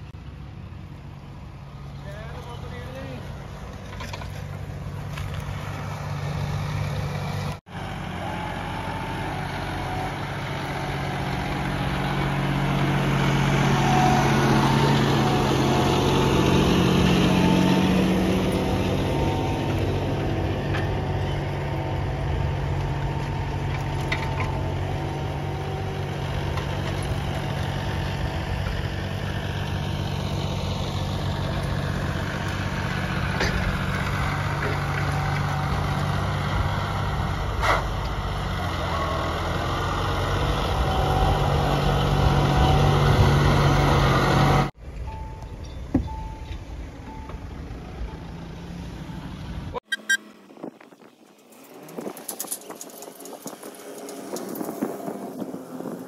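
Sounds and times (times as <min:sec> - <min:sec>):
engines running under load: 0:00.0 - 0:56.0.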